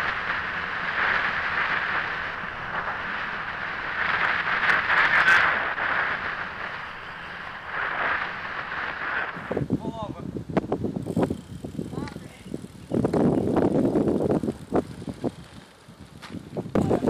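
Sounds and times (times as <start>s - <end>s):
tyres on asphalt: 0.0s - 17.0s
wind rushing: 0.0s - 17.0s.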